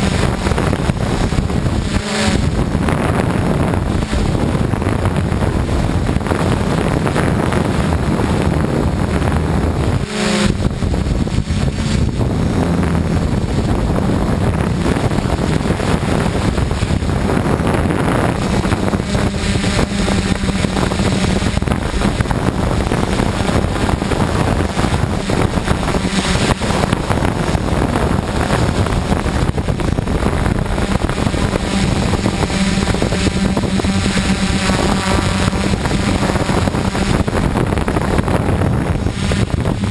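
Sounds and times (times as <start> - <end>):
drone motors droning: 0.0 - 39.9
wind buffeting microphone: 0.0 - 39.9.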